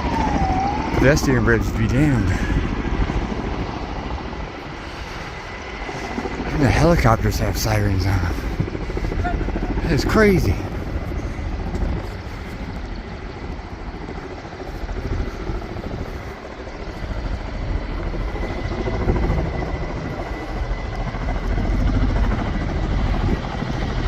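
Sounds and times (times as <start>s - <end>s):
helicopter rotor and engine: 0.0s - 24.0s.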